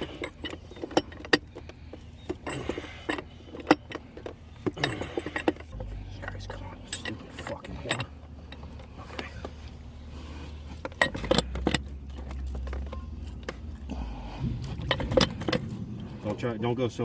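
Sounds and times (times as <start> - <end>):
pipe fitting clicks and knocks: 0.0 - 9.5, 10.8 - 13.7, 14.6 - 15.8
low steady hum: 0.0 - 17.0.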